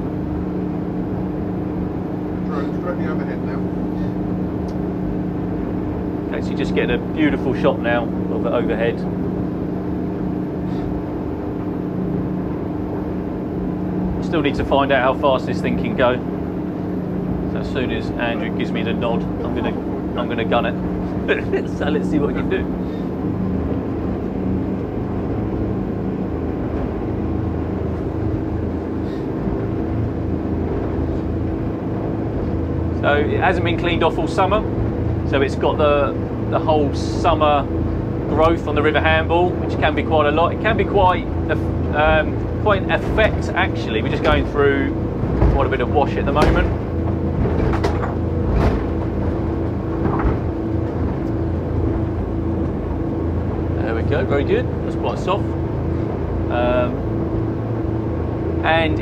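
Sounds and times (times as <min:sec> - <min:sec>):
diesel engines droning: 0:00.0 - 0:59.0
wind: 0:00.0 - 0:59.0
hull thuds crossing wash: 0:09.1 - 0:59.0.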